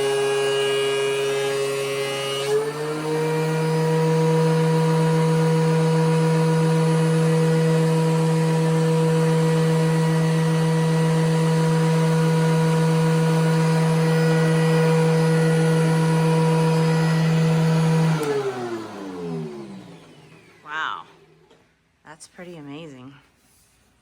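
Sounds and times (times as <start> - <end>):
thickness planer whining down: 0.0 - 21.7.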